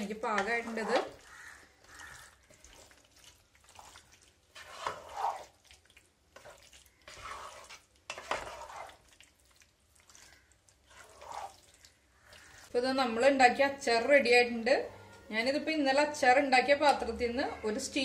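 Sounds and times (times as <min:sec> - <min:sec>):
wooden spatula stirring thick pickle: 0:00.0 - 0:18.0.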